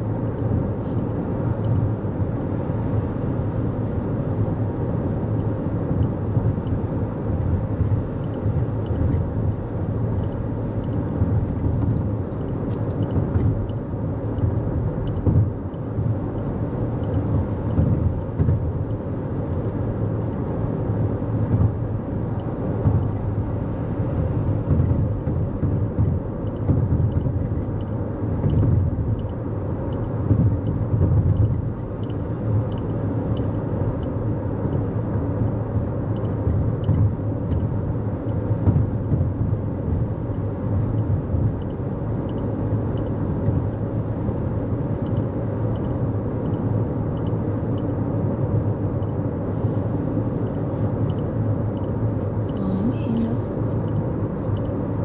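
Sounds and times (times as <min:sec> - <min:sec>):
car road rumble: 0:00.0 - 0:55.0.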